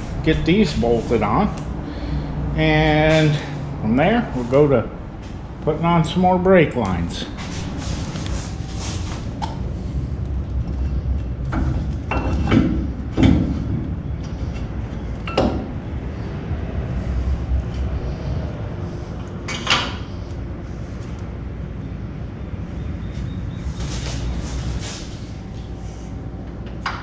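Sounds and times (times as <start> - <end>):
low hum: 0.0 - 6.0, 6.6 - 27.0.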